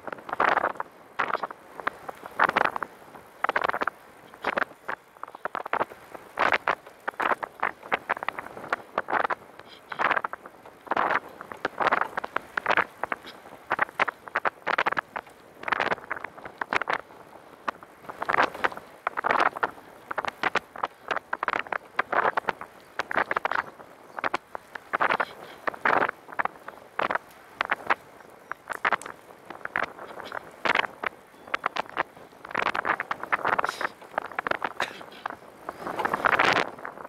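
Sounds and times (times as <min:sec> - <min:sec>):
wind buffeting: 0:00.0 - 0:37.0.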